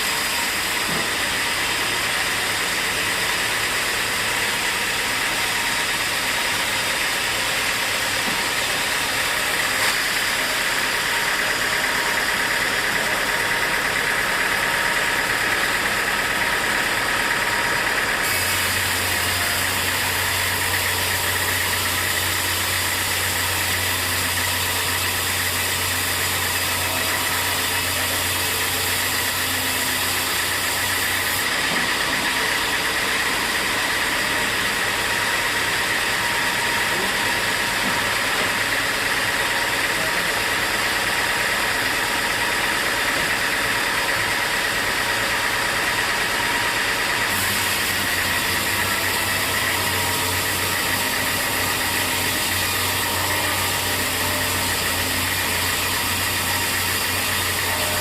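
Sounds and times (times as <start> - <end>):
high machine whine: 0.0 - 58.0
sawmill machinery din: 0.0 - 58.0.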